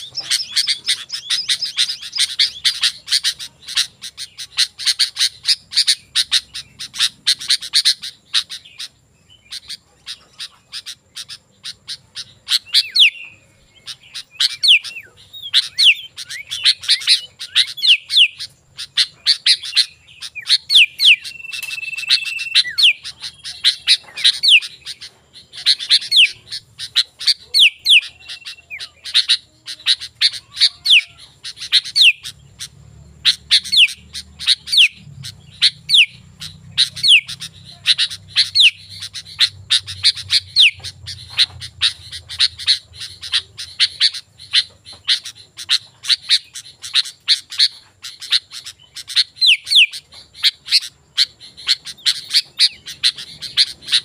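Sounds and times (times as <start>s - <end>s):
bird singing rapid chirps: 0.0s - 54.0s.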